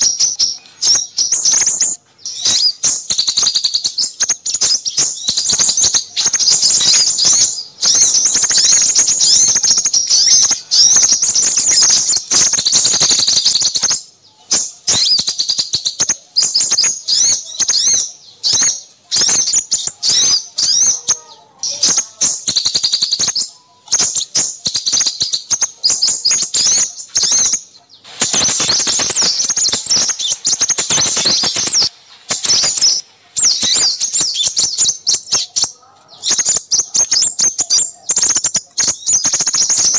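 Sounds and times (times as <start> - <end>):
small birds twittering: 0.0 - 39.9.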